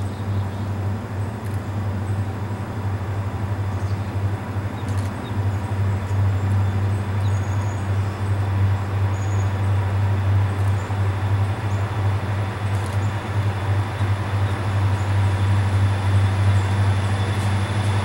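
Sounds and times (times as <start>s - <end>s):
diesel locomotive engine humming: 0.0s - 18.0s.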